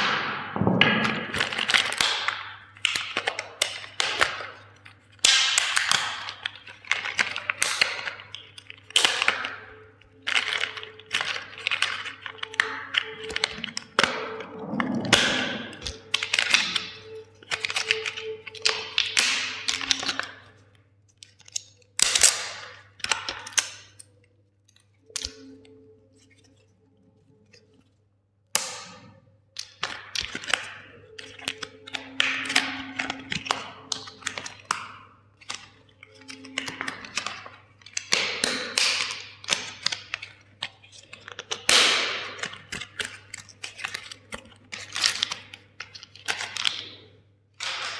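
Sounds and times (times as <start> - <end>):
plastic toys cracking and snapping: 1.6 - 13.9, 16.2 - 25.5, 28.6 - 47.9.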